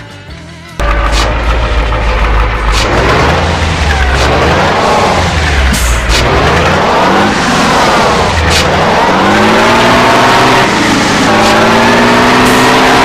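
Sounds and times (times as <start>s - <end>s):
truck engine revving: 0.8s - 13.0s.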